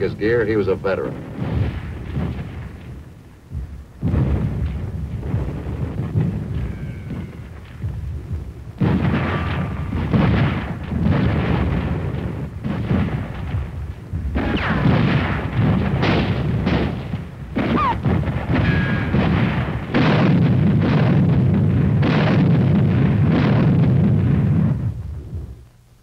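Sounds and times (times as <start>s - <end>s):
explosions: 0.0s - 25.6s
gunfire: 0.0s - 25.6s.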